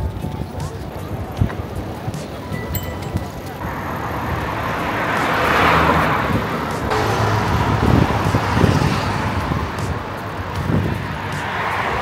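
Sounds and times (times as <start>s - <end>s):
road traffic passing: 0.0s - 12.0s
wind rumbling on microphone: 0.0s - 12.0s.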